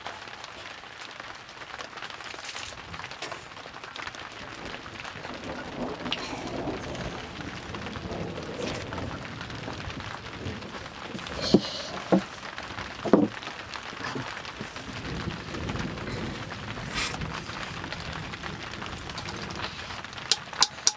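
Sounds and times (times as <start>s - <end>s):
wood fire crackling: 0.0s - 20.9s.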